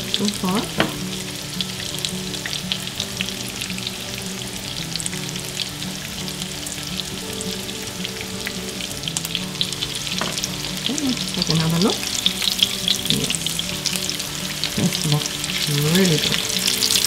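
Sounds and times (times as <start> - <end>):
oil sizzling with crackling pops: 0.0 - 17.0.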